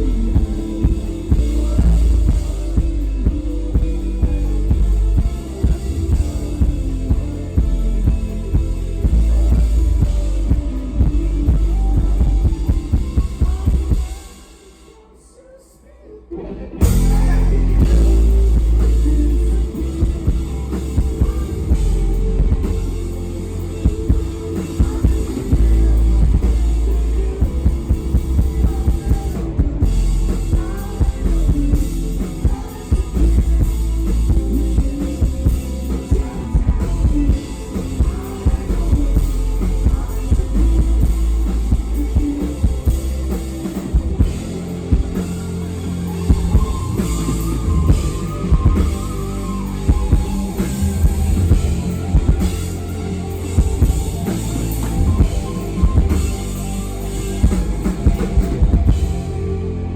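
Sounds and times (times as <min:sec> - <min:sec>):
rock band playing: 0:00.0 - 0:14.8, 0:16.7 - 0:59.9.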